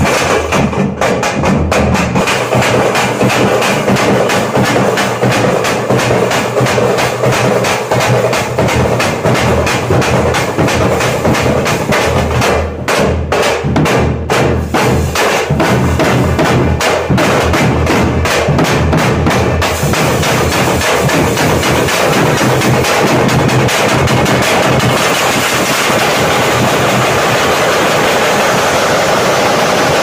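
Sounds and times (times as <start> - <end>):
drum troupe playing: 0.0 - 30.0.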